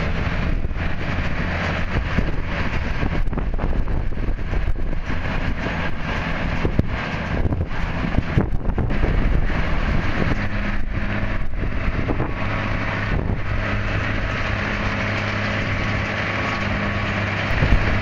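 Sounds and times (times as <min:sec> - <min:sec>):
engine humming steadily: 0:00.0 - 0:18.0
wind buffeting microphone: 0:00.0 - 0:18.0.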